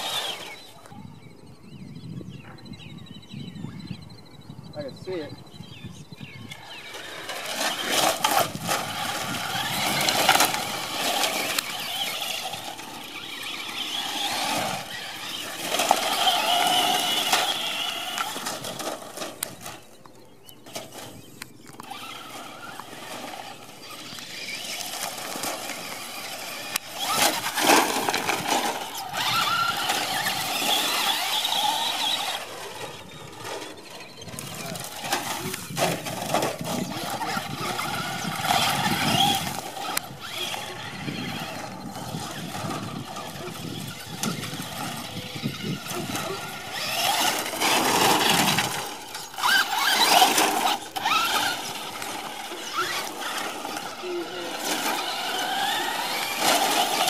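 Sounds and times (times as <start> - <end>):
tyres crunching on dirt: 0.0 - 1.0, 6.4 - 57.0
electric motor whine: 0.0 - 2.6, 5.7 - 57.0.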